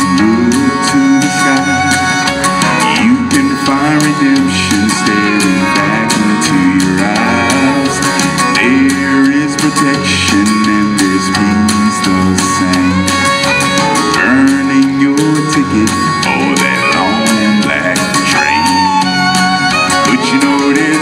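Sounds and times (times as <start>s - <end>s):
male vocal group harmonizing: 0.0s - 13.2s, 14.1s - 21.0s.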